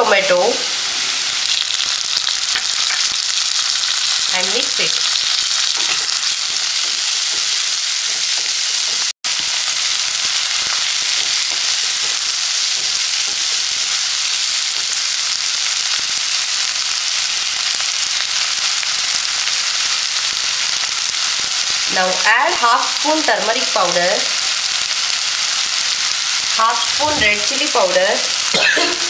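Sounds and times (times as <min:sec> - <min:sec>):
vegetables sizzling in hot oil: 0:00.0 - 0:29.0.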